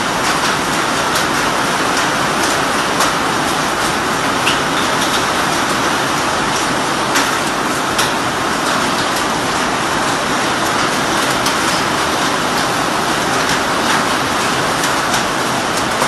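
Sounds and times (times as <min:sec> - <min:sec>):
torrential rain on concrete: 0:00.0 - 0:16.0.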